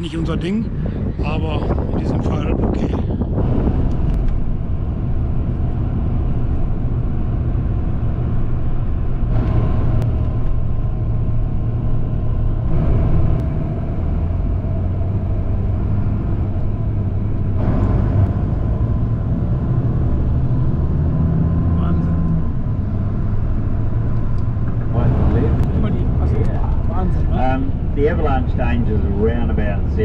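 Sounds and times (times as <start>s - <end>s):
bus engine rumble: 0.0s - 30.0s
road noise inside vehicle: 0.0s - 30.0s.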